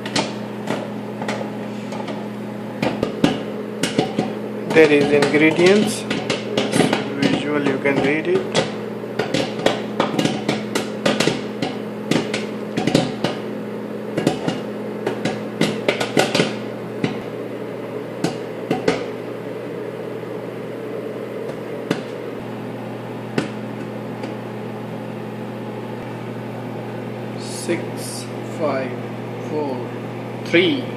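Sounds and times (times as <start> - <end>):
popcorn popping: 0.0 - 27.8
microwave oven humming: 0.0 - 30.9.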